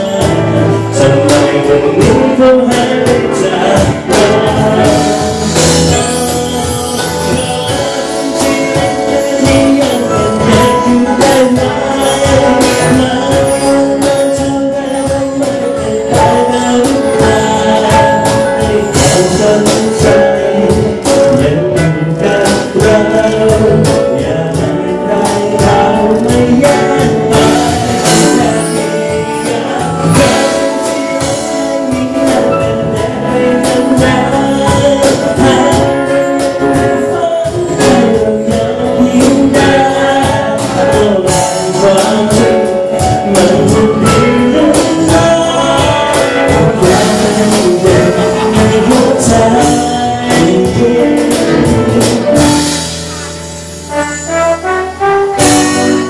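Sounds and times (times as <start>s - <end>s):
live pop band: 0.0s - 56.0s
man singing: 0.0s - 56.0s
trumpet: 0.0s - 56.0s.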